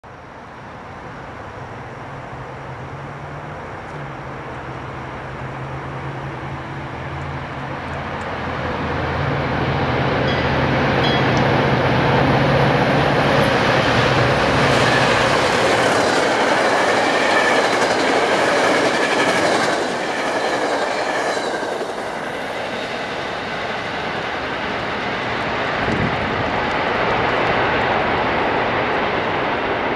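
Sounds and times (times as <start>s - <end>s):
diesel locomotive engine drone: 0.1s - 29.9s
train wheels on rails rushing: 3.4s - 29.9s.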